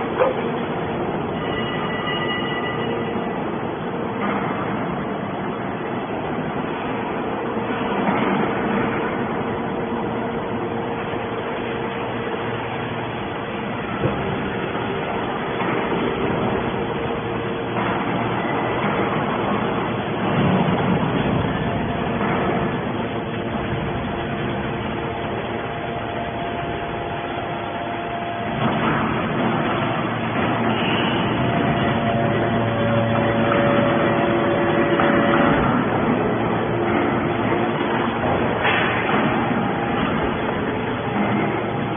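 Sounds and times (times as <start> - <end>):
scrap metal baler running: 0.0 - 41.9.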